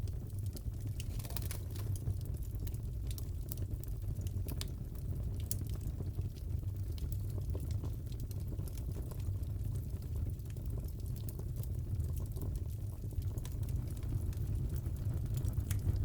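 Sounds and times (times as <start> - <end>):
fireplace fire crackling: 0.0 - 16.0
low rumble of fire: 0.0 - 16.0.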